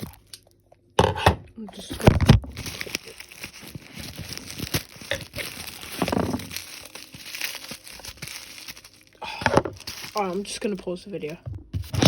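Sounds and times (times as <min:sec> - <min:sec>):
packaging crinkling and rustling: 0:01.8 - 0:12.0.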